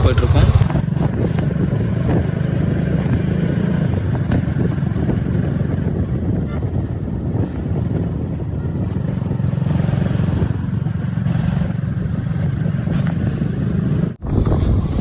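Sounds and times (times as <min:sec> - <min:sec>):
motorcycle engine rumbling: 0:00.0 - 0:15.0
road noise: 0:00.0 - 0:15.0.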